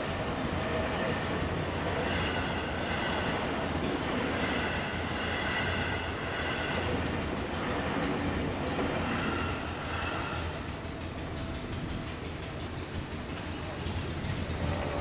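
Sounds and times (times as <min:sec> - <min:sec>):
higher-pitched train tones: 0:00.0 - 0:15.0
train rolling past: 0:00.0 - 0:15.0.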